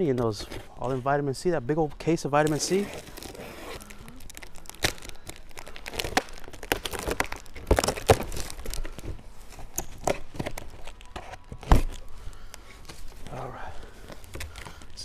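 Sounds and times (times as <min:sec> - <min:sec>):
packaging crinkling and rustling: 0:02.4 - 0:15.0.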